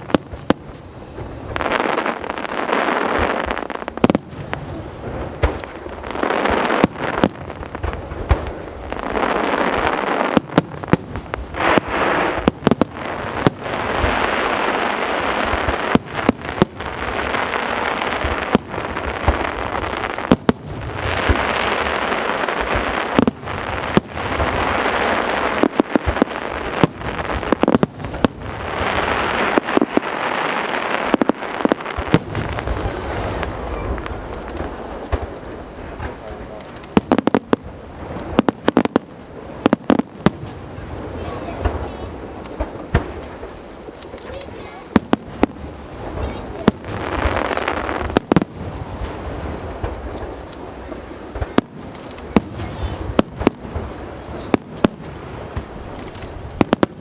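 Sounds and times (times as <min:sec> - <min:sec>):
firework hiss and crackle: 0:00.0 - 0:57.0
firework shells bursting: 0:00.0 - 0:57.0.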